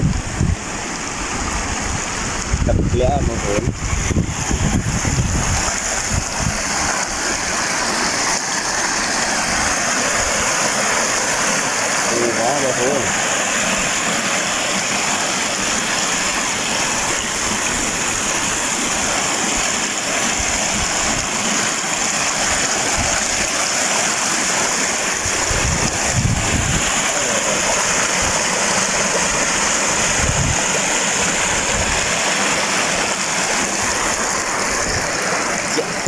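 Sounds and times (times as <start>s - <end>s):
stream water rushing over rocks: 0.0s - 36.0s.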